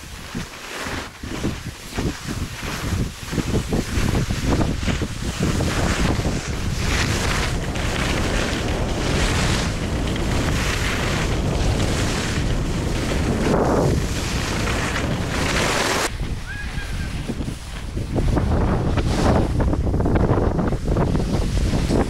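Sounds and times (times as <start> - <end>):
skis hissing over snow: 0.0 - 22.0
wind buffeting microphone: 0.0 - 22.0.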